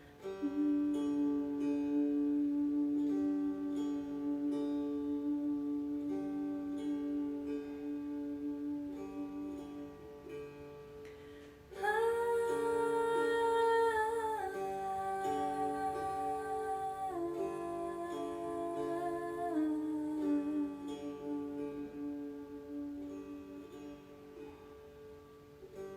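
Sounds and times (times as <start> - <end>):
slow plucked strings: 0.0 - 25.9.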